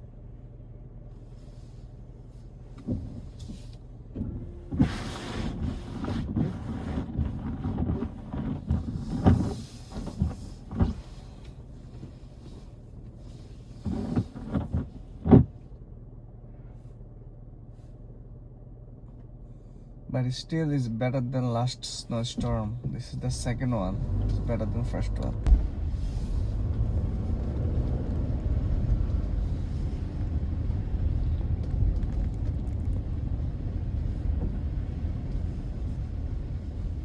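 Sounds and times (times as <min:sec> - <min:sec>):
car engine and road hum: 0:00.0 - 0:37.0.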